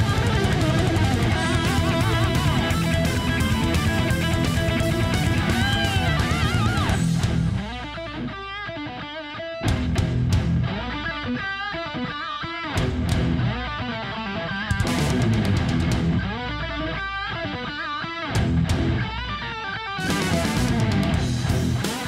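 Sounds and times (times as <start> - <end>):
rock music with electric guitar: 0.0 - 22.0.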